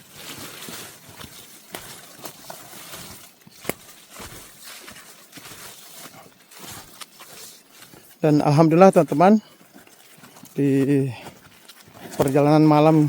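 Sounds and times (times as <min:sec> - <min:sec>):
footsteps on dirt path: 0:00.0 - 0:13.0.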